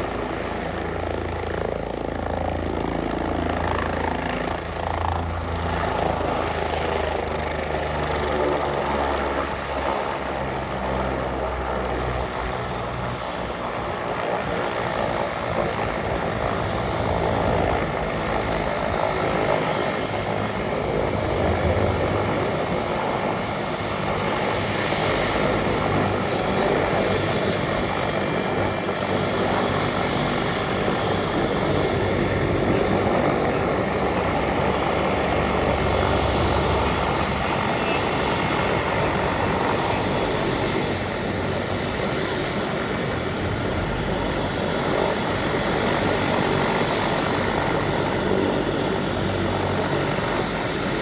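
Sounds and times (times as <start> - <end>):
helicopter rotor noise: 0.0 - 51.0
helicopter turbine whine: 0.0 - 51.0.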